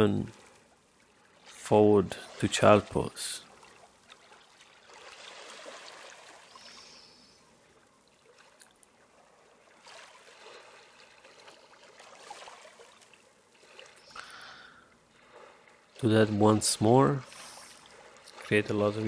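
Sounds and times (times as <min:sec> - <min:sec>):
stream trickling: 0:00.0 - 0:19.0.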